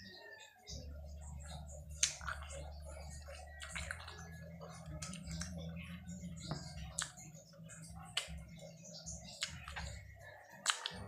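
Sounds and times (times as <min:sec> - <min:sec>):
chewing: 0:00.0 - 0:11.0
mouth clicks and lip smacks: 0:01.2 - 0:11.0.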